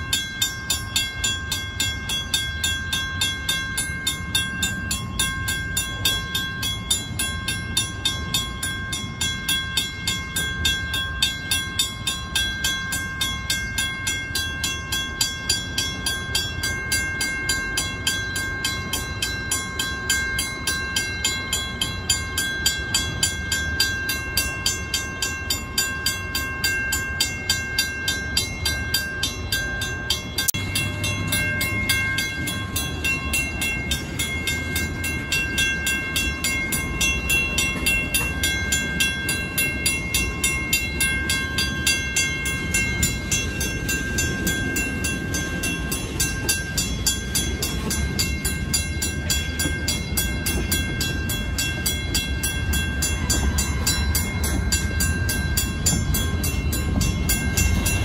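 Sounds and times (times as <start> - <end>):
freight train cars rumbling: 0.0 - 58.0
mechanical crossing bell ringing: 0.0 - 58.0.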